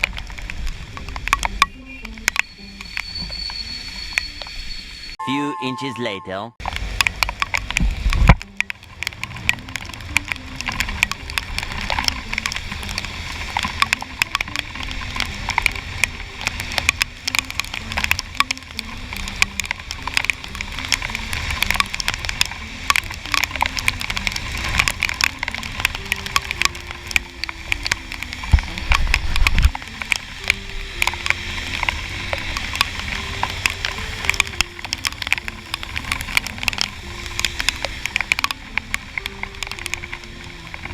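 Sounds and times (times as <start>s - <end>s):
wind and road noise: 0.0s - 5.1s, 6.6s - 40.9s
rain drops crackling on camera: 0.0s - 5.2s, 6.6s - 40.9s
faint melody of stepped notes: 5.2s - 7.8s, 8.4s - 40.9s.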